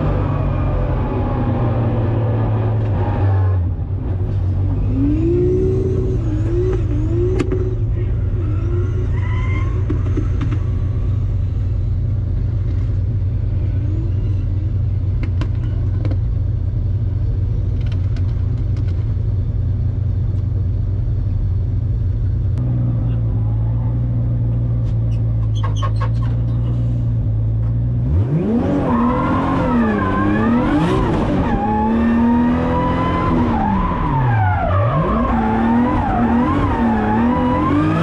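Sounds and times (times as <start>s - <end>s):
car engine revving and rumbling: 0.0s - 38.0s.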